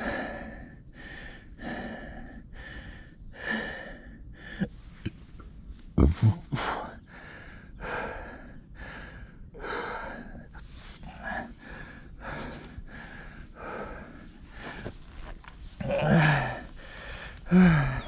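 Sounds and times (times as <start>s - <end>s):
person panting hard: 0.0s - 4.8s, 6.2s - 18.0s.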